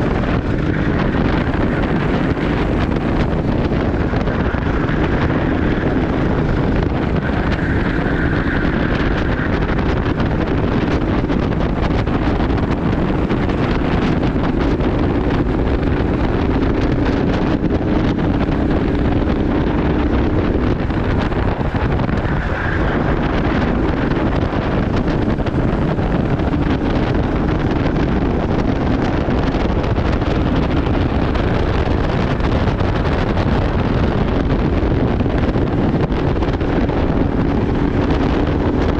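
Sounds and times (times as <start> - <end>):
go-kart engine running: 0.0 - 38.9
wind noise on microphone: 0.0 - 38.9.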